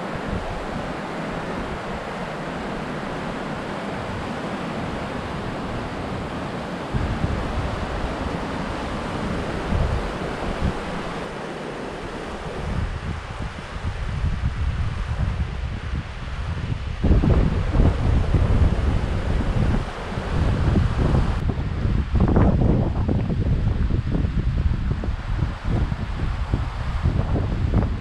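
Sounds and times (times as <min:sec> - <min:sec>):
river rushing over rapids: 0:00.0 - 0:28.0
wind buffeting microphone: 0:00.0 - 0:28.0.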